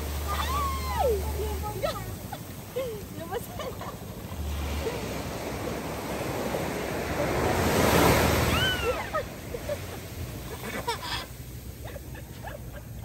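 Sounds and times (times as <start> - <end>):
small waves breaking on a beach: 0.0 - 13.0.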